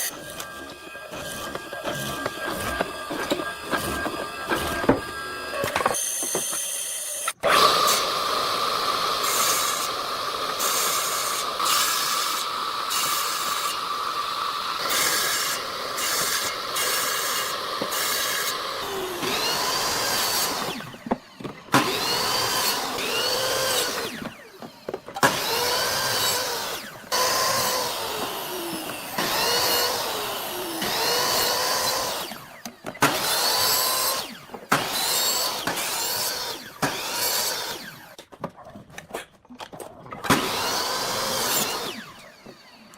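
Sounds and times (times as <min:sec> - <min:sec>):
power tool on wood: 0:00.0 - 0:38.2, 0:40.2 - 0:42.9.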